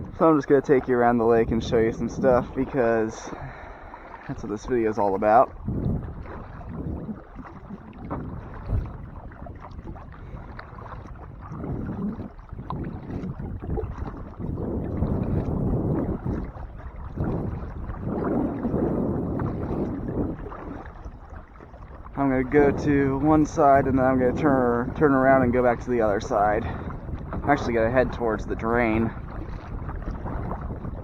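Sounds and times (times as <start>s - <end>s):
paddle splashing in water: 0.0s - 31.0s
wind buffeting microphone: 0.0s - 31.0s.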